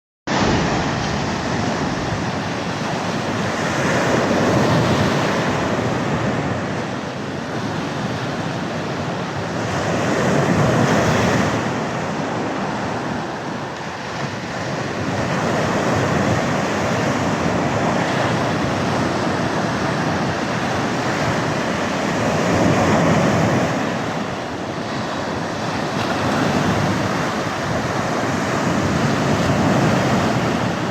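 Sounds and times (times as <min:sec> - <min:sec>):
sea waves washing onto shore: 0:00.3 - 0:30.9.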